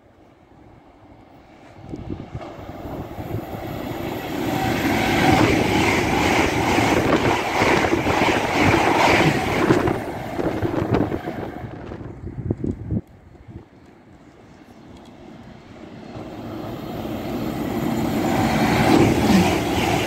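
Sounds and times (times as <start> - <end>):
train passing at speed: 0.0 - 20.0.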